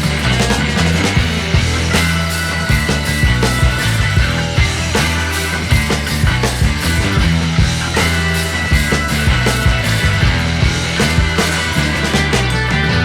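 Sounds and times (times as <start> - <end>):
rock music with bass line: 0.0 - 13.0.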